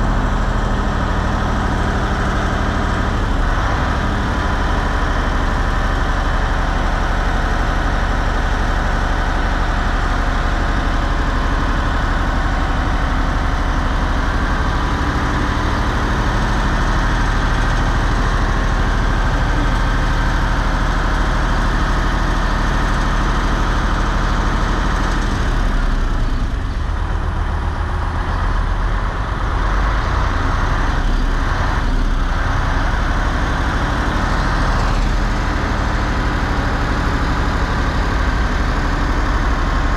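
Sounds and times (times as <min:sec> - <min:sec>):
boat diesel engine idling: 0:00.0 - 0:39.9.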